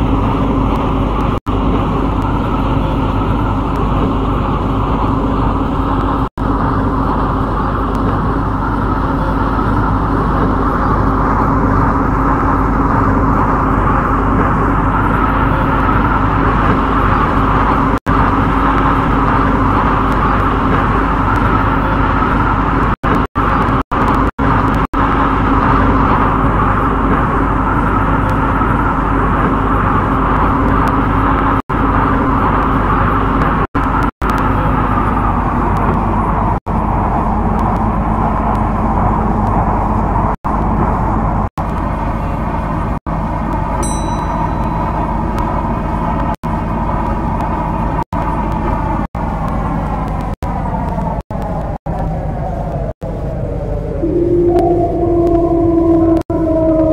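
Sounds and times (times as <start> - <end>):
train interior hum and rushing: 0.0 - 56.9.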